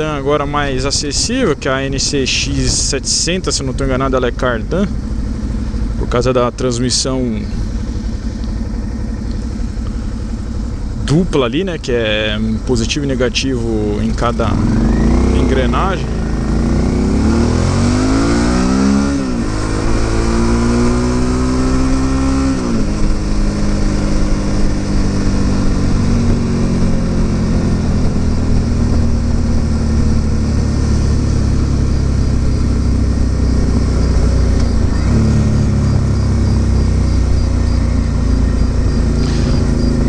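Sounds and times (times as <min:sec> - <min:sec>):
motorcycle engine accelerating: 0:00.0 - 0:40.0
road noise rushing: 0:00.0 - 0:40.0.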